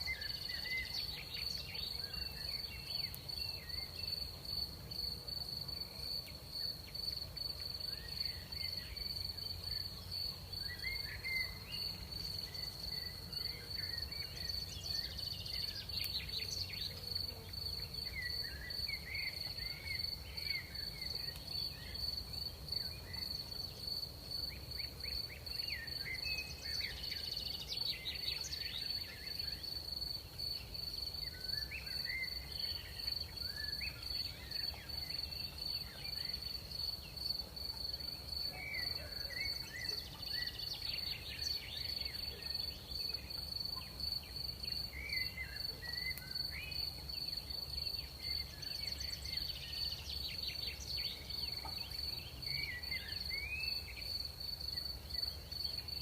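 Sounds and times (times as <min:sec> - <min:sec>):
crickets trilling drone: 0:00.0 - 0:56.0.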